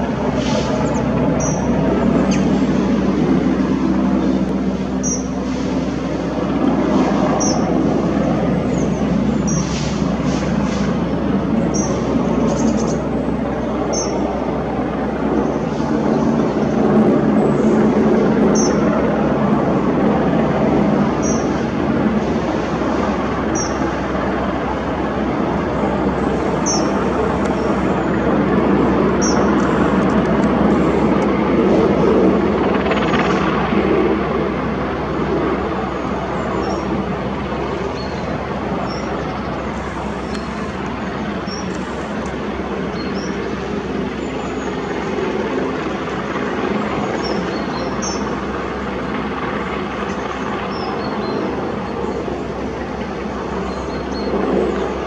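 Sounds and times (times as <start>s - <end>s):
distant helicopter drone: 0.0s - 55.0s.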